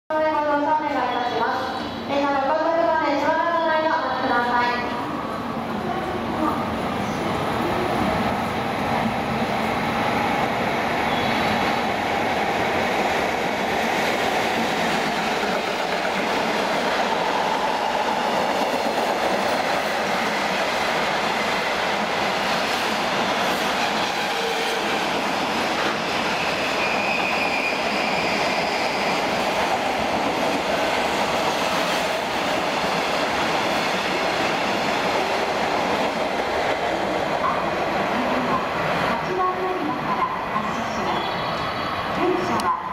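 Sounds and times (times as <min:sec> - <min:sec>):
train wheels rolling on rails: 0:05.6 - 0:42.9.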